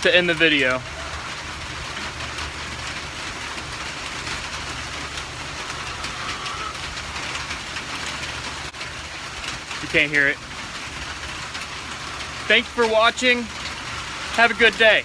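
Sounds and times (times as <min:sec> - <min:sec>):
rain falling hard: 0:00.0 - 0:15.0.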